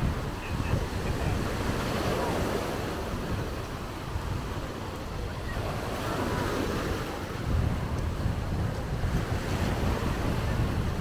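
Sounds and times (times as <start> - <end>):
sea waves washing onto beach: 0.0 - 11.0
wind buffeting microphone: 0.0 - 11.0.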